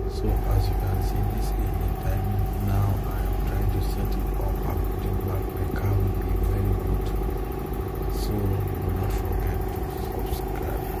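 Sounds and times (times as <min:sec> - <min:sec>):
motor running steadily: 0:00.0 - 0:11.0.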